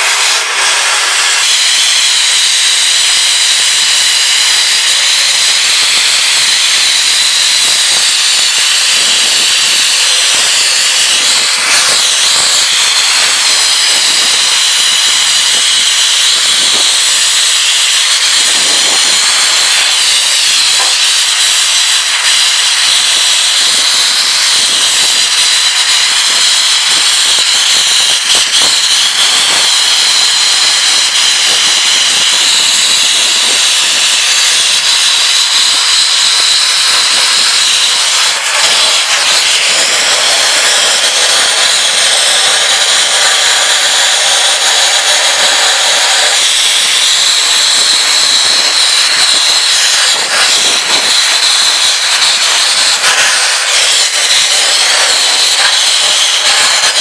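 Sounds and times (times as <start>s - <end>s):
shot-blasting air hiss: 0.0s - 57.0s.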